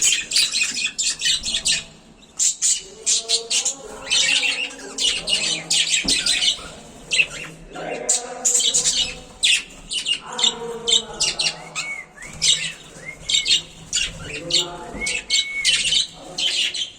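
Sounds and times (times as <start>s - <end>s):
budgerigars chirping and squawking: 0.0s - 16.9s.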